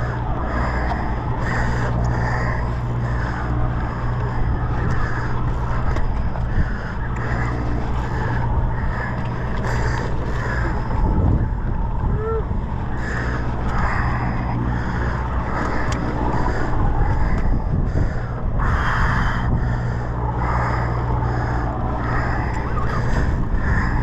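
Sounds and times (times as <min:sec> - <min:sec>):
boat diesel engine droning: 0:00.0 - 0:24.0
water noise: 0:00.0 - 0:24.0
wind: 0:00.0 - 0:24.0.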